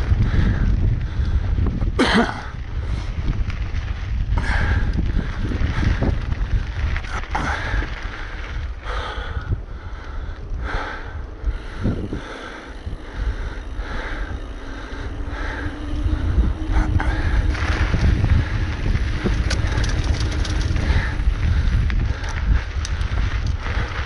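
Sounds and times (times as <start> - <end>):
gravel and bike rattles: 0.0 - 24.0
mountain bike rolling rumble: 0.0 - 24.0
wind noise on microphone: 0.0 - 24.0.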